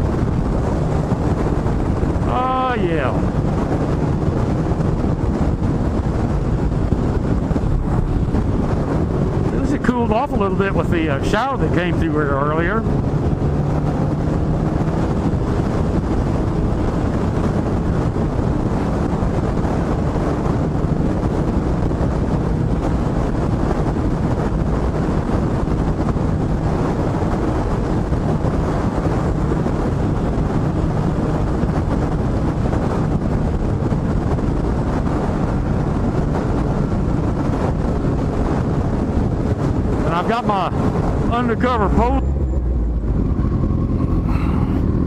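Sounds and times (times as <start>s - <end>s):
motorcycle engine drone: 0.0s - 45.0s
wind rushing on microphone: 0.0s - 45.0s.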